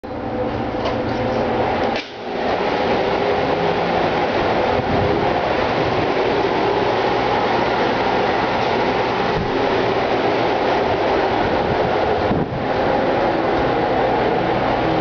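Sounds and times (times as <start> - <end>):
engine room machinery drone: 0.0 - 15.0.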